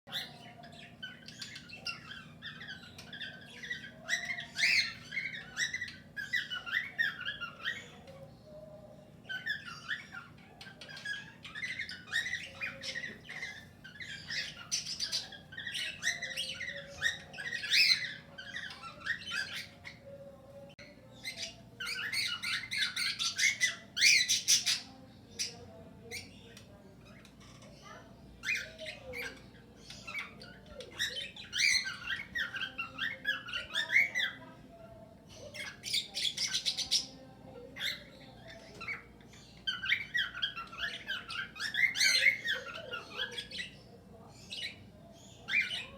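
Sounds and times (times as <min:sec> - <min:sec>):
parrots chirping and squawking: 0:00.1 - 0:45.9.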